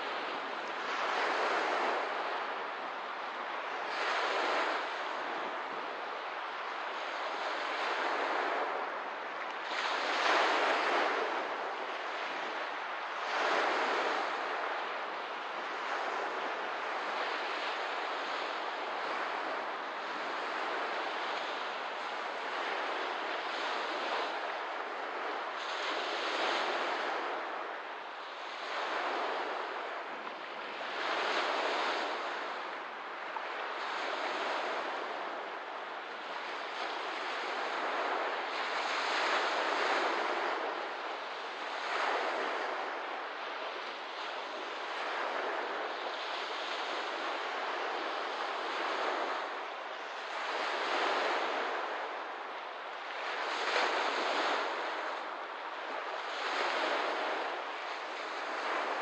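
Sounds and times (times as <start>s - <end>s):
small waves washing ashore: 0.0s - 59.0s.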